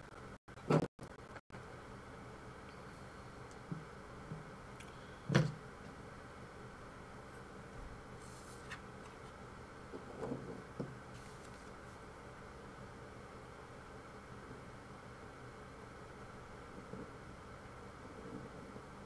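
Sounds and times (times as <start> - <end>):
faint steady hiss: 1.6 - 19.0.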